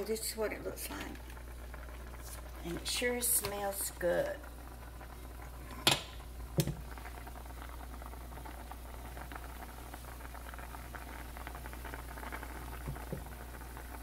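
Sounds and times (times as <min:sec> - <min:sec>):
food bubbling at a boil: 0:00.0 - 0:14.0.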